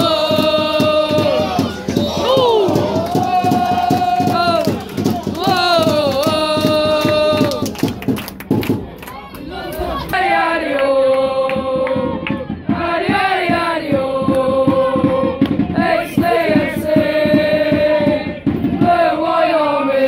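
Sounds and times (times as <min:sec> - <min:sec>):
crowd chanting: 0:00.0 - 0:07.9, 0:08.9 - 0:20.0.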